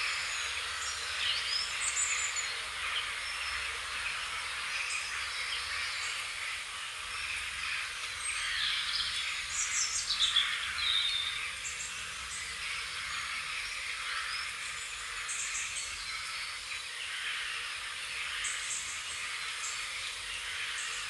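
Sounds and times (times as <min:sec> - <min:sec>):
birds chirping and singing: 0:00.0 - 0:21.0
dense bird chorus: 0:00.0 - 0:21.0.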